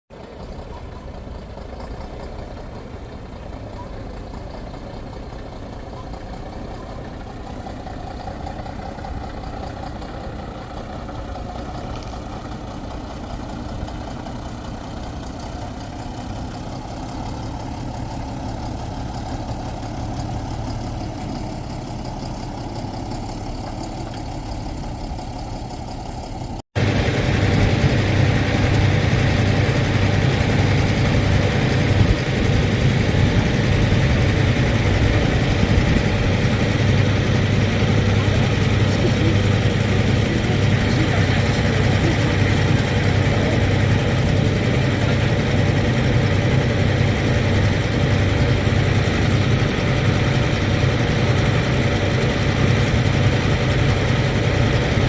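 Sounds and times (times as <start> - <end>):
truck diesel engine idling: 0.1 - 55.0.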